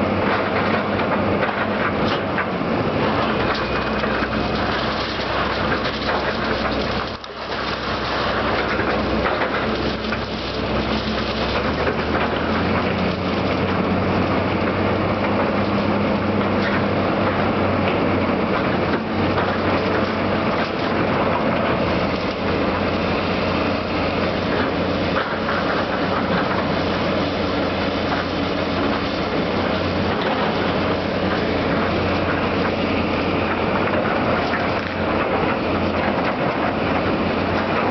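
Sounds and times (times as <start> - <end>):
diesel engine of demolition machinery: 0.0 - 37.9.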